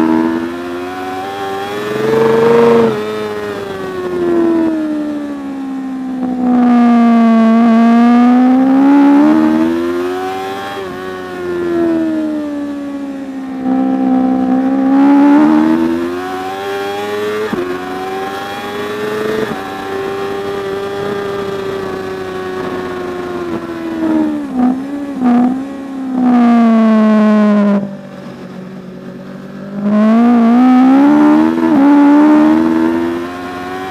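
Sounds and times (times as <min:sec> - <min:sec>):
superbike engine revving: 0:00.0 - 0:04.7, 0:06.2 - 0:11.0, 0:13.6 - 0:27.9, 0:29.6 - 0:33.9.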